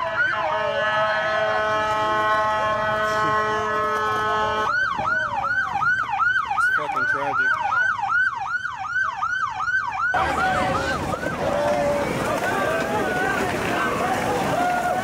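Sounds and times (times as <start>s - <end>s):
police siren yelping: 0.0s - 3.4s, 4.2s - 15.0s.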